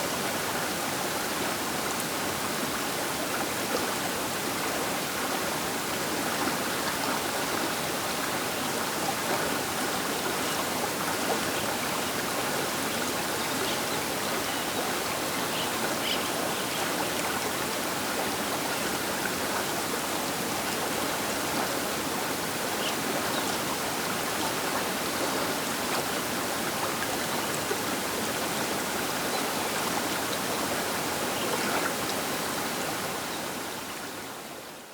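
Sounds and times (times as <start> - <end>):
river water rushing: 0.1 - 34.7.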